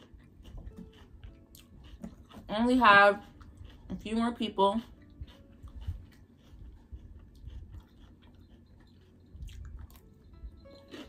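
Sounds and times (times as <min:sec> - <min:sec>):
chewing salad: 0:00.0 - 0:11.0.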